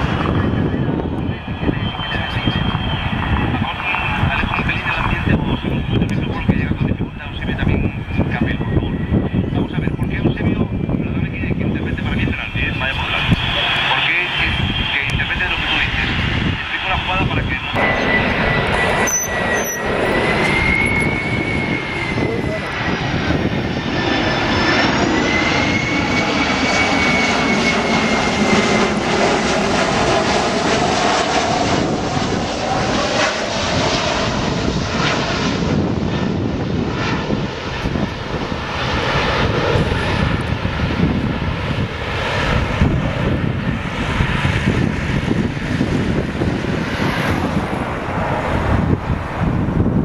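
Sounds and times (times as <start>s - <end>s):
high jet engine whine: 0.0s - 50.0s
jet engines rumbling overhead: 0.0s - 50.0s.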